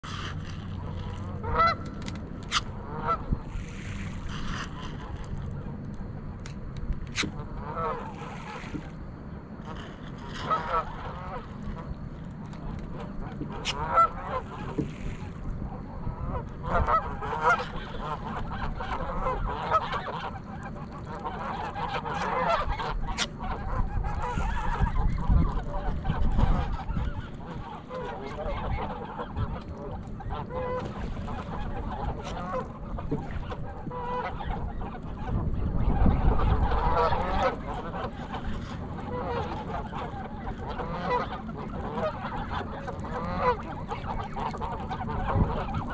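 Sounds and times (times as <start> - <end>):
geese honking: 0.0 - 5.8, 7.1 - 9.0, 9.6 - 45.9.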